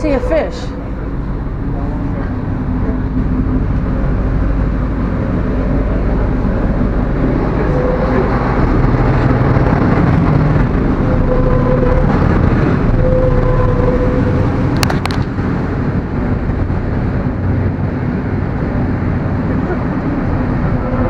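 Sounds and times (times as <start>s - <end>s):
boat engine rumbling: 0.0s - 21.0s
water noise: 0.0s - 21.0s
wind: 0.0s - 21.0s.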